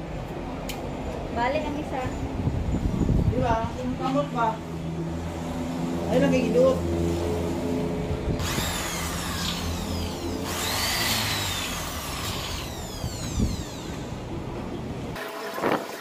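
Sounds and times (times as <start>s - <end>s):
vehicles passing: 0.0s - 15.2s.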